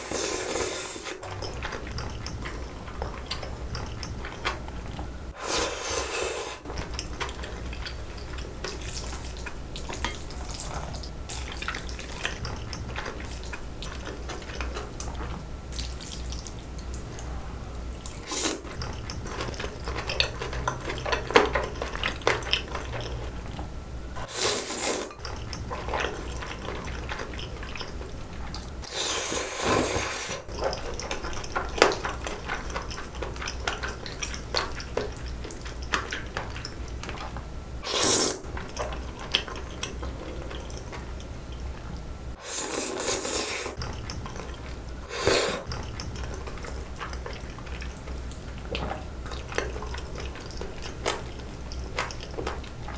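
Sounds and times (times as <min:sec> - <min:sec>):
wet noodle slurping: 0:00.0 - 0:03.7, 0:05.3 - 0:16.4, 0:18.0 - 0:23.4, 0:24.2 - 0:41.0, 0:42.4 - 0:47.9
chewing: 0:00.1 - 0:52.9.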